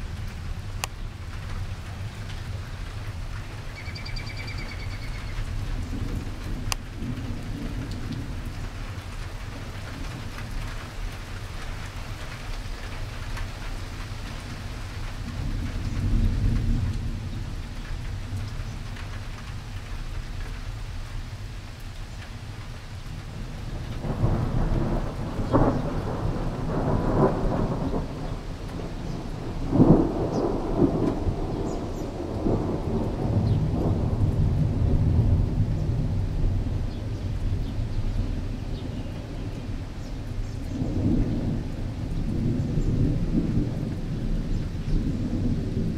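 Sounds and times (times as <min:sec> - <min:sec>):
thunder rumbling: 0:00.0 - 0:21.0, 0:22.4 - 0:45.9
steady rain: 0:00.0 - 0:45.9.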